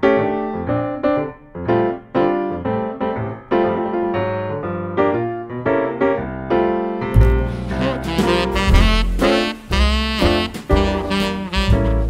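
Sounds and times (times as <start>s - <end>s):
piano notes and chords: 0.0s - 12.0s.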